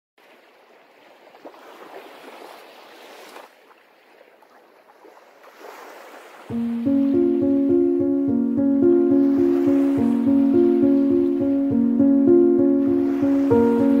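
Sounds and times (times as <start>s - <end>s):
sea waves washing on shore: 0.2s - 14.0s.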